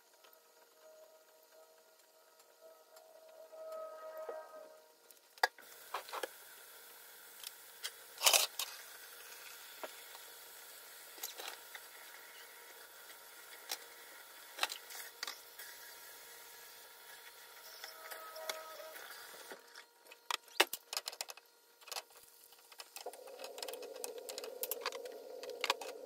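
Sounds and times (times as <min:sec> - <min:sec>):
frying sizzle with pops: 0:00.0 - 0:03.9, 0:04.8 - 0:26.0.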